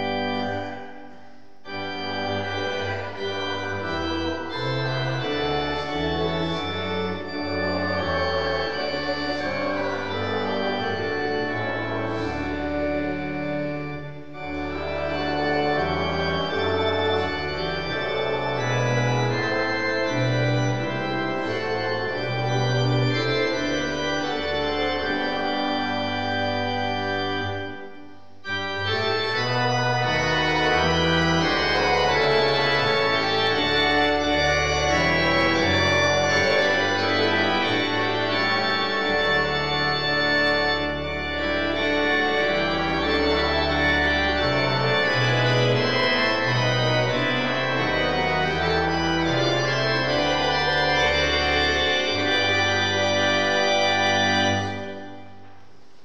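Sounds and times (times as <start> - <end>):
church organ playing hymn chords: 0.0 - 55.7.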